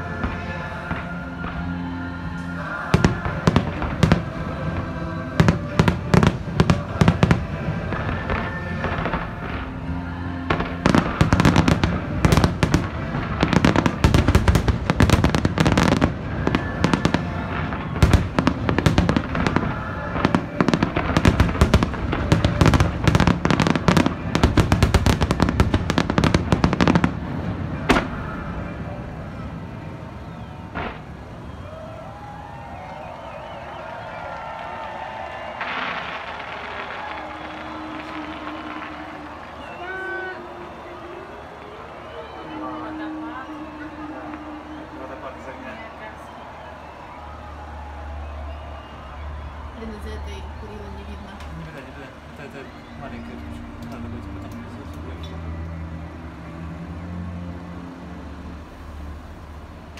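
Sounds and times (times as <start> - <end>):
fireworks bangs and crackling: 0.0 - 55.5
music: 0.0 - 59.9.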